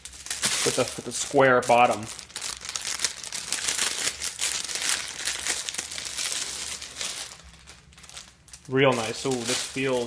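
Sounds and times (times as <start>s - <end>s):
tissue paper crinkling: 0.0s - 10.0s.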